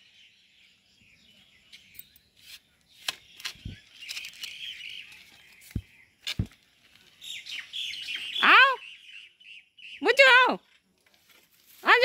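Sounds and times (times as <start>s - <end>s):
faint bird chirping: 0.0s - 10.6s.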